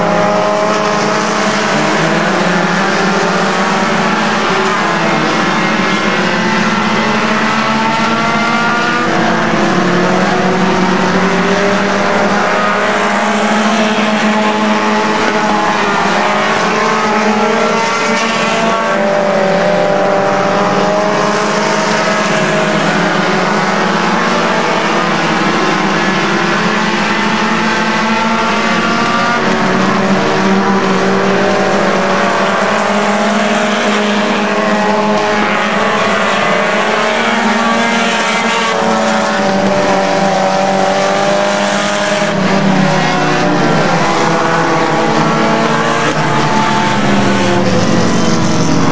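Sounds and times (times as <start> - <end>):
stock car engines racing: 0.0 - 48.9.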